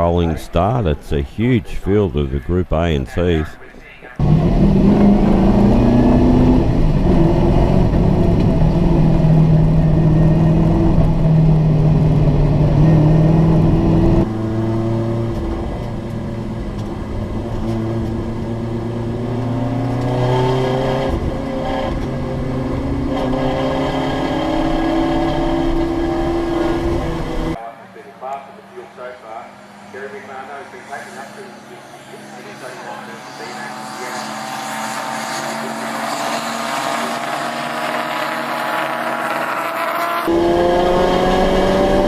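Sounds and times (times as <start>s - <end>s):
racing car engines accelerating: 4.1s - 27.6s, 28.6s - 42.0s.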